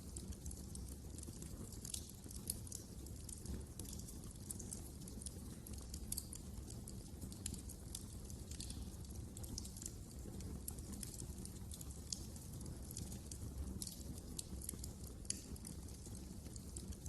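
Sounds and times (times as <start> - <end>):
low rumble of flames: 0.0 - 17.0
wood fire pops and snaps: 0.0 - 17.0.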